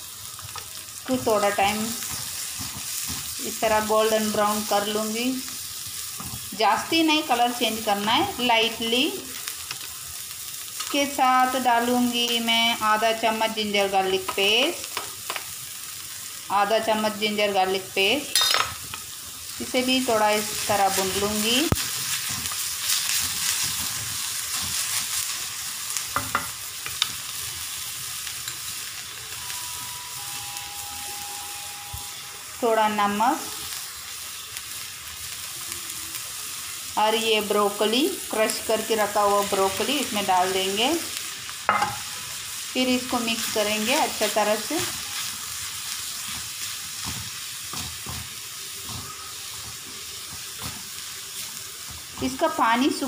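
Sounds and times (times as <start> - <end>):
vegetables sizzling in hot oil: 0.0 - 53.0.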